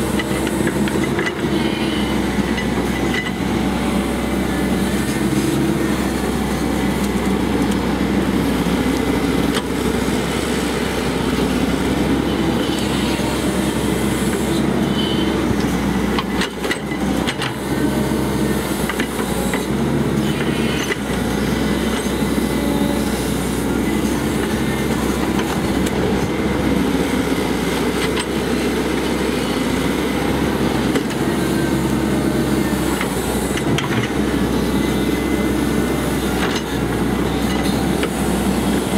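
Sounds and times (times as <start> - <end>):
diesel engine droning: 0.0 - 38.9
hydraulic whine: 0.0 - 38.9.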